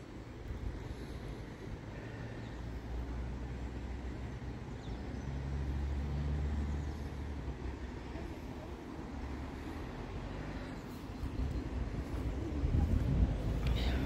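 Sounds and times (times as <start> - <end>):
vehicle engine rumbling by: 0.0 - 14.0.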